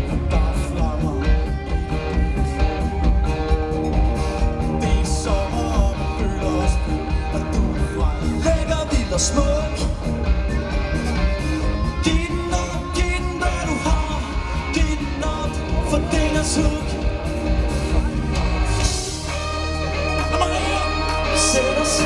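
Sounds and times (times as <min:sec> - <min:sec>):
person singing: 0:00.0 - 0:10.2, 0:11.6 - 0:17.6, 0:18.4 - 0:22.0
heavy bass beat: 0:00.0 - 0:22.0
live pop-rock band: 0:00.0 - 0:22.0.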